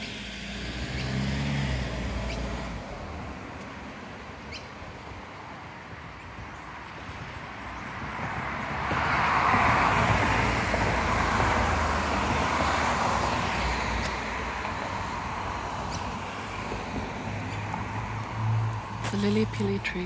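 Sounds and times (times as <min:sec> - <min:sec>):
traffic background hum: 0:00.0 - 0:20.0
vehicle passing: 0:00.0 - 0:20.0.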